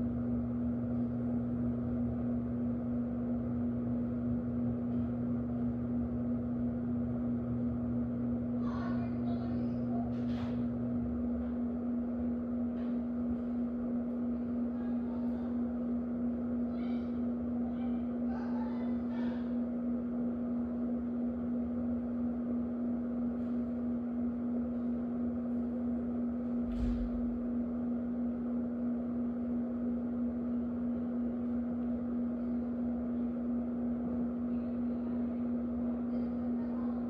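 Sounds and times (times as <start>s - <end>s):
electric fan running: 0.0s - 37.0s.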